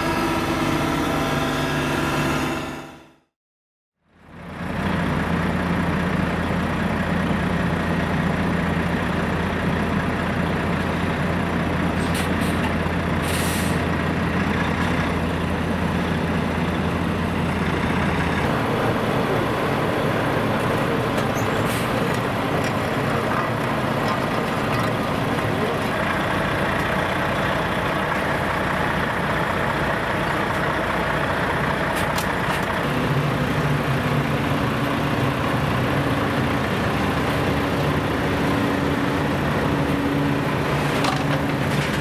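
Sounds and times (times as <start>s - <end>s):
heavy vehicle engine running: 0.0s - 3.3s, 4.1s - 42.0s.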